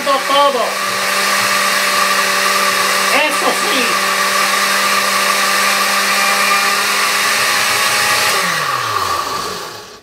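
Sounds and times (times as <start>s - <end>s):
blender running: 0.0s - 10.0s.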